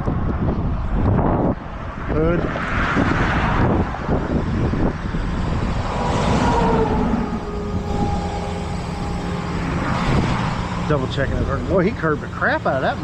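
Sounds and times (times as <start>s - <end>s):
highway traffic: 0.0s - 13.0s
vehicle passing: 0.9s - 13.0s.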